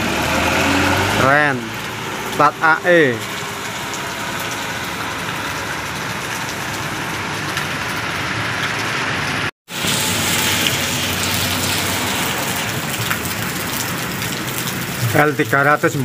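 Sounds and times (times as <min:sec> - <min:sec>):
heavy rain pouring: 0:00.0 - 0:16.0
vehicles passing on a flooded road: 0:00.0 - 0:16.0.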